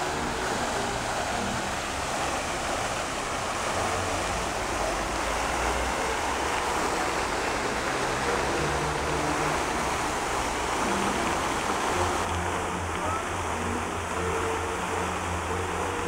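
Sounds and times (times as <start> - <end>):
fountain jet spraying: 0.0 - 16.0
soft music: 0.0 - 16.0.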